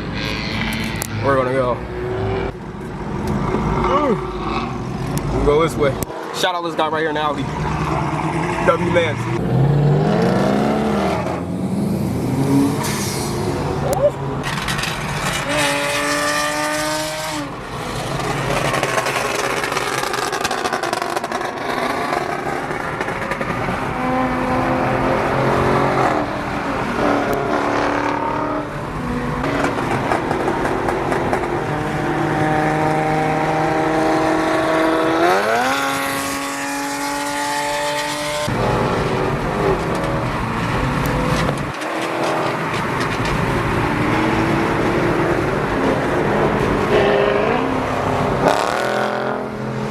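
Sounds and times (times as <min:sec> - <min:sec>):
car engines revving: 0:00.0 - 0:49.9
traffic din: 0:00.0 - 0:49.9.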